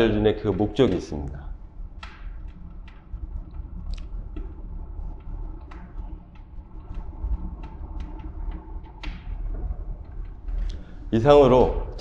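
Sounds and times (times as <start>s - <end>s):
low fire rumble: 0.0s - 12.0s.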